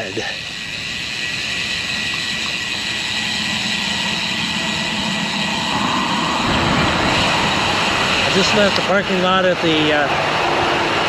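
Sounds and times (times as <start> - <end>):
bike tyres rolling over paving: 0.0 - 9.6
low rumble: 0.0 - 11.0
wind noise: 0.9 - 11.0.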